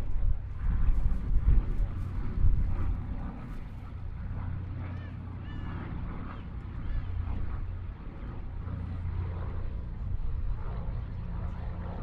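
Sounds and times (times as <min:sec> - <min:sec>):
aircraft piston engines droning: 0:00.0 - 0:12.0.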